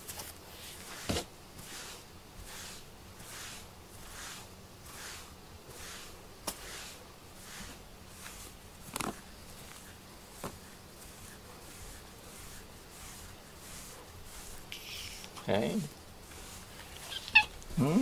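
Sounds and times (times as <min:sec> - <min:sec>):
glove brushing cat fur: 0:00.5 - 0:17.8.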